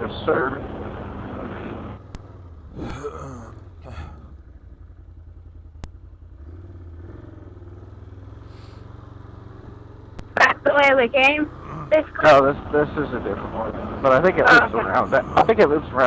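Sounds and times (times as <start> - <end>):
atv engine idling: 0.0 - 16.0.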